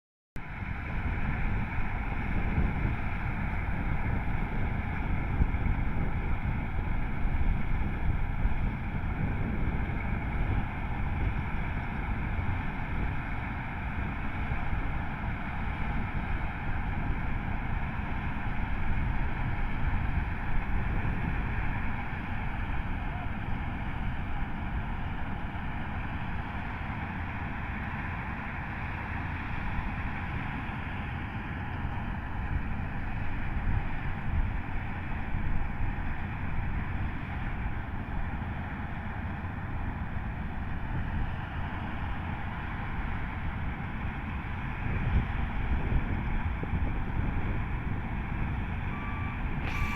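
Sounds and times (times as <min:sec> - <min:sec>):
combine harvester rumble: 0:00.4 - 0:49.9.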